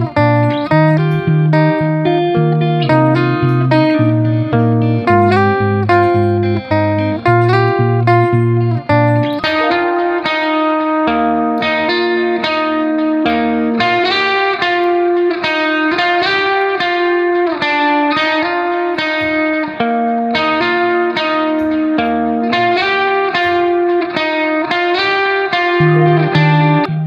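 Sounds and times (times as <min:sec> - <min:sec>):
electric guitar melody: 0:00.0 - 0:27.0.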